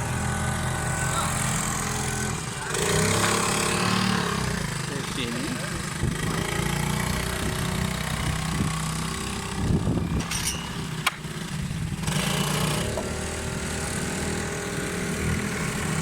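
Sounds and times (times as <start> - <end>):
small boat engines droning: 0.0 - 16.0.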